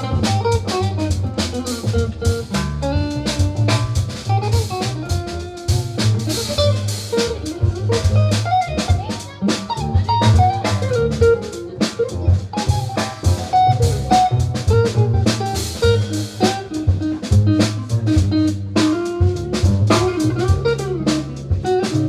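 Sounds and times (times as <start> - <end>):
bass guitar: 0.0 - 22.0
drum kit: 0.0 - 22.0
guitar lines: 0.0 - 22.0.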